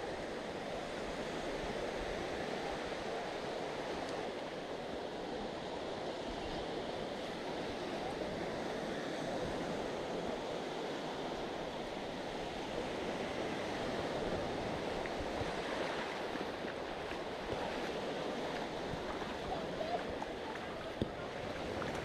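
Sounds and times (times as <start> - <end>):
waves washing onto beach: 0.0 - 22.0.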